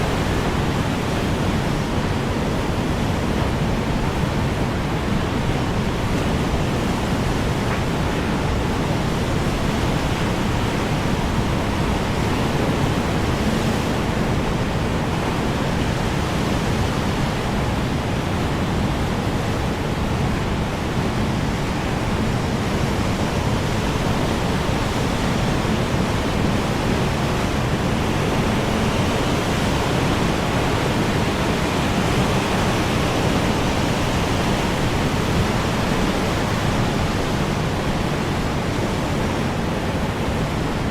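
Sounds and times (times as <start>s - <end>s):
strong wind blowing: 0.0s - 40.9s.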